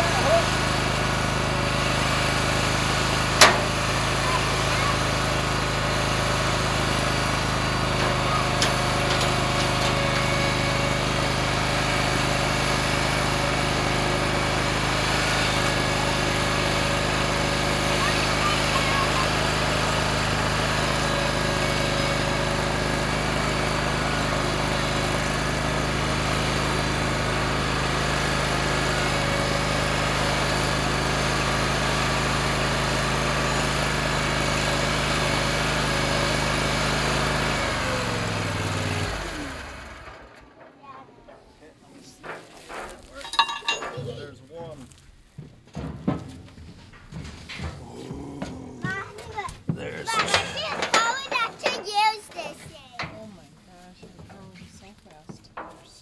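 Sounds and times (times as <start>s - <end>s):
stump grinder engine running: 0.0s - 40.6s, 47.8s - 53.3s.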